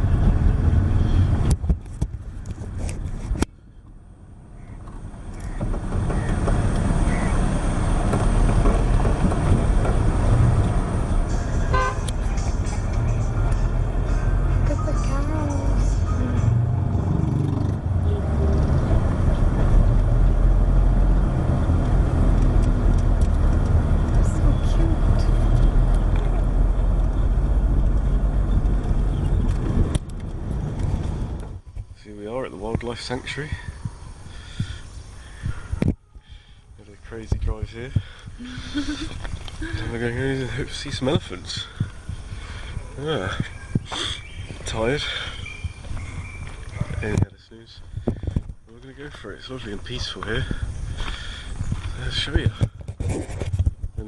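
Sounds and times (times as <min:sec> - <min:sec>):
car travel rumble and wind: 0:00.0 - 0:54.0.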